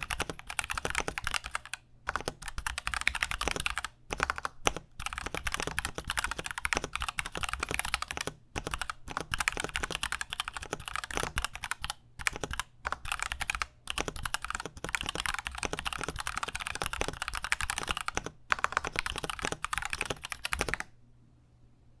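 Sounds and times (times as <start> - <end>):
fast typing on mechanical keyboard: 0.0 - 20.9.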